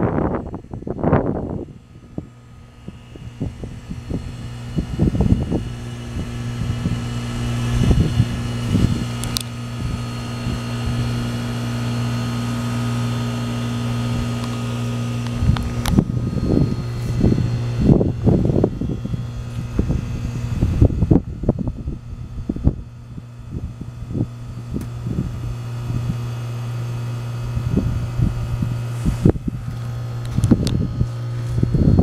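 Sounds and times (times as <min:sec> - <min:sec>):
compressor humming: 0:00.0 - 0:32.0.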